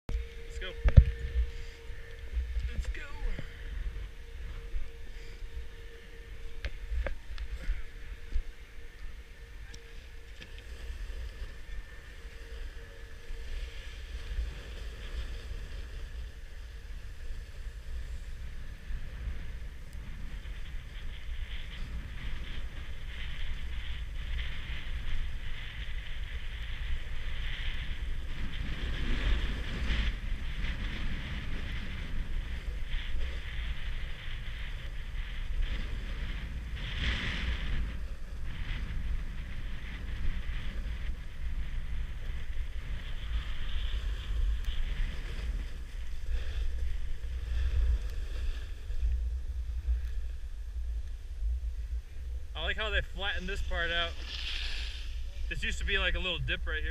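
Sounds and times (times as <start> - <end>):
wind buffeting microphone: 0.1 - 56.9
skis scraping over packed snow: 9.9 - 56.9.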